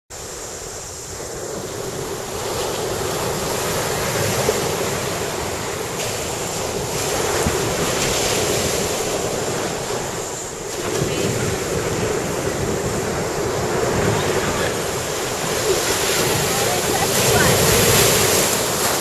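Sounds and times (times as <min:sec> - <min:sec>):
surf washing onto beach: 0:00.2 - 0:19.0
wind buffeting microphone: 0:00.6 - 0:19.0.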